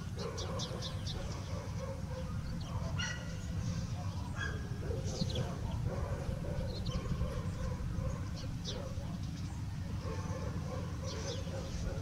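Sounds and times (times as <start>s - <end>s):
wind rumble on microphone: 0.0s - 10.0s
small birds chirping: 0.0s - 12.0s.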